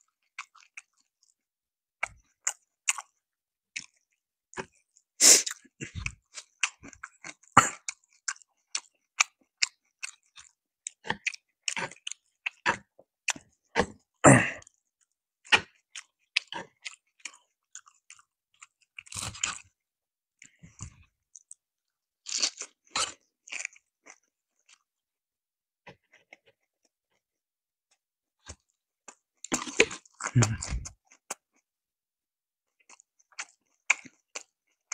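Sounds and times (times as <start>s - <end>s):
person chewing crunchy food: 0.0s - 1.4s, 2.0s - 19.8s, 20.4s - 25.0s, 25.8s - 27.3s, 27.9s - 31.7s, 32.6s - 34.9s.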